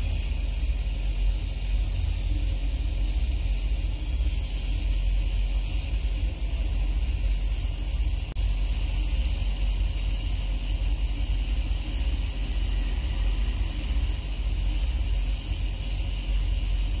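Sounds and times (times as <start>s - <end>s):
compressor nebulizer droning: 0.0s - 17.0s.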